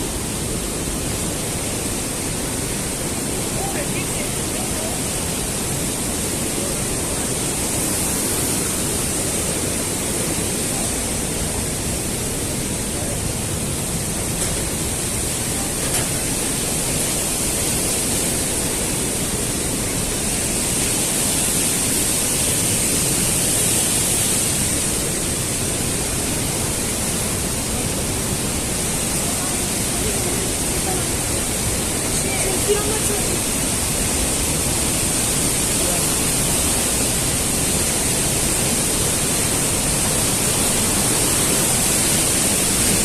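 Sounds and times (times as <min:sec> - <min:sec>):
rushing water roar: 0:00.0 - 0:43.0.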